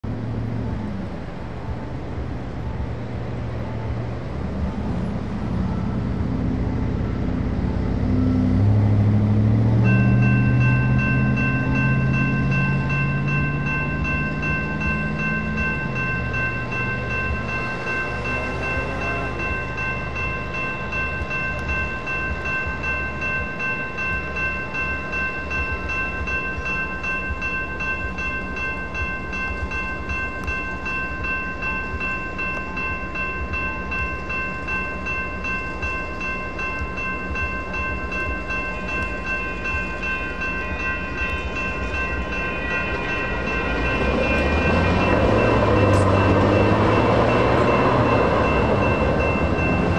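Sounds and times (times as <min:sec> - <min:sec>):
crossing warning bells ringing: 0:00.0 - 0:49.9.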